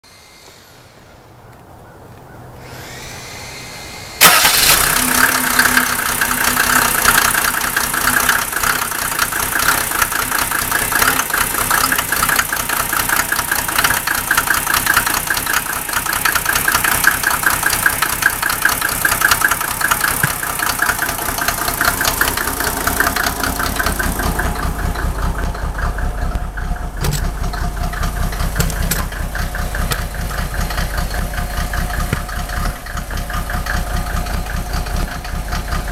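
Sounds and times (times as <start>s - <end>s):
diesel engine cranking: 2.6s - 35.9s
diesel engine idling roughly: 2.6s - 35.9s.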